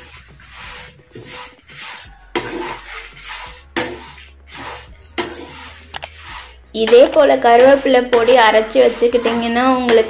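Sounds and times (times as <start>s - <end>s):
spatula scraping frying pan: 0.0s - 10.0s.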